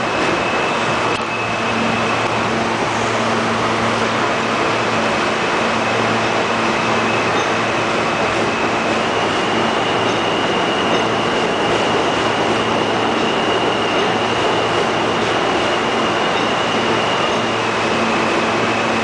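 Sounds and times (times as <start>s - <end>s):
train equipment running noise: 0.0s - 19.0s.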